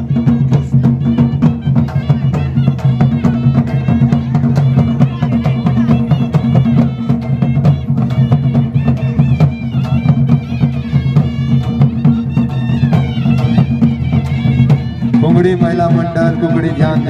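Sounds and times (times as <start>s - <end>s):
drums beating steady rhythm: 0.0s - 17.0s
wavering melody: 0.0s - 17.0s.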